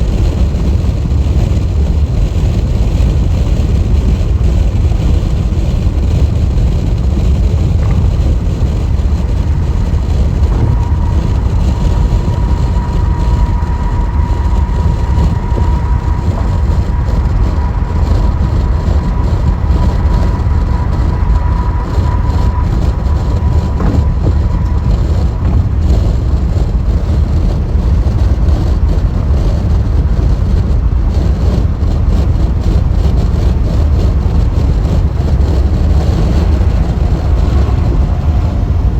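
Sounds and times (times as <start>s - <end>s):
steady high whine: 0.0s - 38.9s
tyre and road noise: 0.0s - 38.9s.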